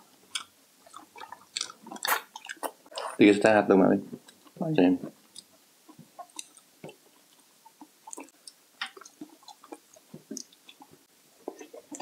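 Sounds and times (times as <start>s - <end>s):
person chewing: 0.0s - 3.2s, 4.2s - 10.9s
mouth smacks and clicks: 0.3s - 3.2s, 5.2s - 12.0s.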